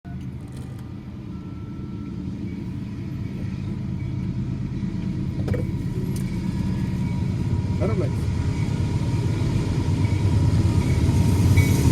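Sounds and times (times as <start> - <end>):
diesel locomotive engine rumble: 0.1 - 11.9.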